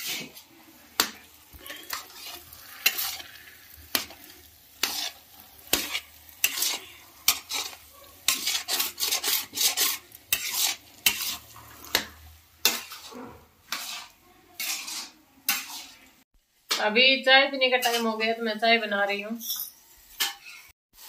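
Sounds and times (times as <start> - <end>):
metal spatula scraping pan: 0.0 - 16.8, 17.6 - 21.0
ghee sizzling: 0.0 - 21.0.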